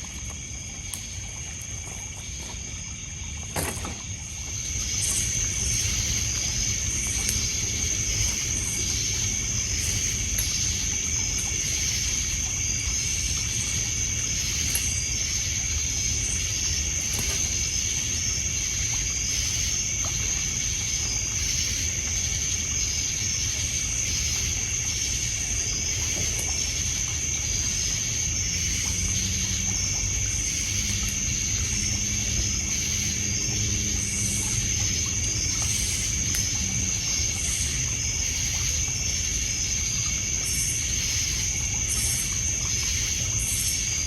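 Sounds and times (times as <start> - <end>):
crickets trilling: 0.0 - 44.0
water lapping on pebbles: 0.0 - 44.0.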